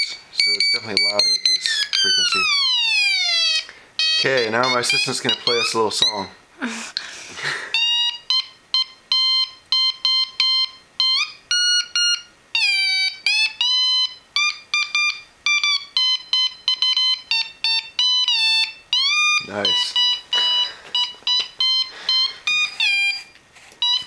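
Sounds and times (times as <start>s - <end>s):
buzzy high beeps: 0.0s - 6.3s, 7.8s - 24.0s.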